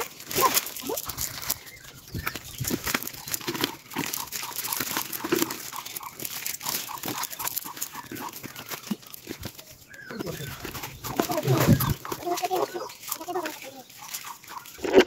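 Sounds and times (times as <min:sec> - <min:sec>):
high animal calls: 0:00.0 - 0:15.0
leaves and net rustling: 0:00.0 - 0:15.0.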